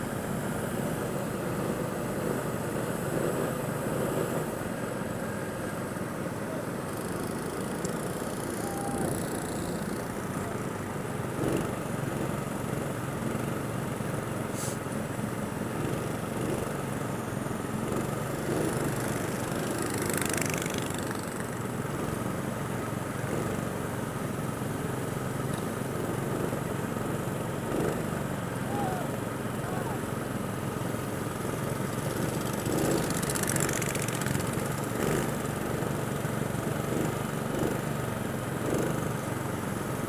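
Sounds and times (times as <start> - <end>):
go-kart engine running: 0.0 - 40.0.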